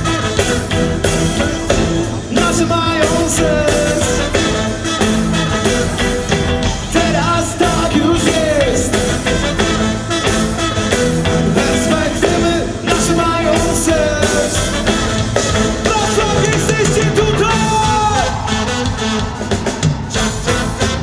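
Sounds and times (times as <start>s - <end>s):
live reggae band playing: 0.0s - 21.0s.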